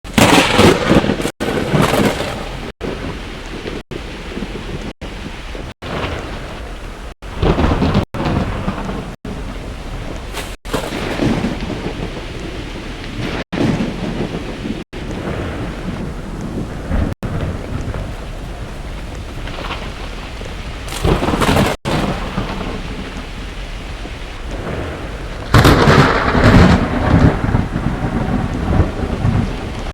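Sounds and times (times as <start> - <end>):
heavy rain: 0.0 - 29.9
thunder rumbling: 0.0 - 29.9.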